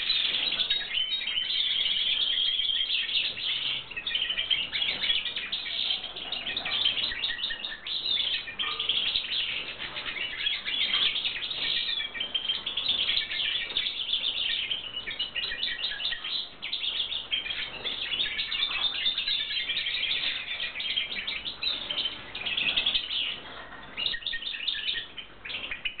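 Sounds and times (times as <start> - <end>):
goldfinches chirping and twittering: 0.0 - 26.0.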